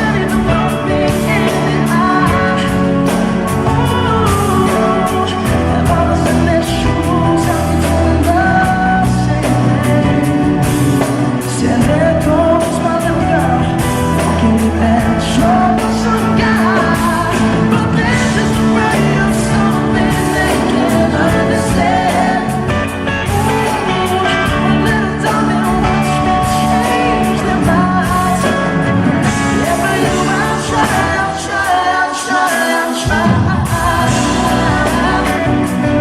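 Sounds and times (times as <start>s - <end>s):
live band playing pop ballad: 0.0s - 36.0s
person singing: 0.0s - 36.0s.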